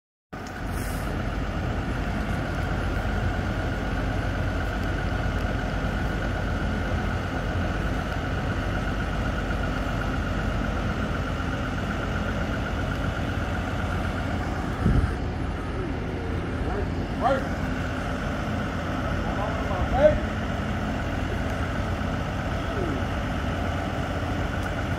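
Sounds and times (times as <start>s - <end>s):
steady high whine: 0.4s - 24.9s
truck engine idling: 0.4s - 24.9s.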